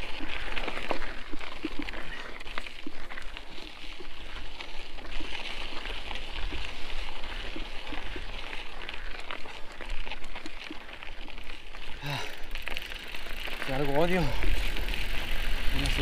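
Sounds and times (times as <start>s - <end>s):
bike tyres crunching on dirt: 0.0s - 16.0s.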